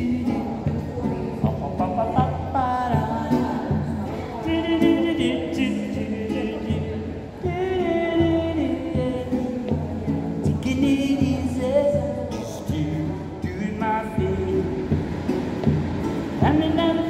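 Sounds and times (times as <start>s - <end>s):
man singing long held notes: 0.0s - 15.3s, 16.2s - 17.0s
nylon-string guitar: 0.0s - 17.0s.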